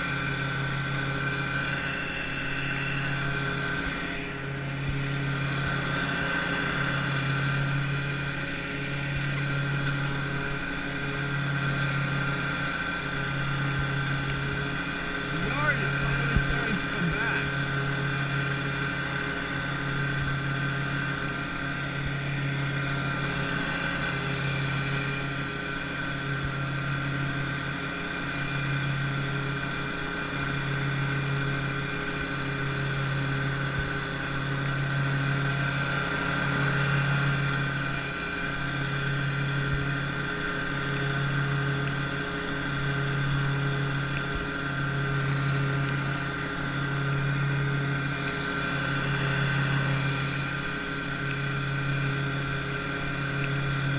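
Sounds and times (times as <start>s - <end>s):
engine humming: 0.0s - 53.9s.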